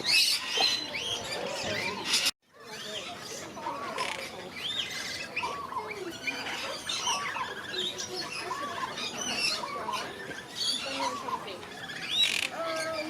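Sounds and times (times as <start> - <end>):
parrots chattering and squawking: 0.0 - 13.0.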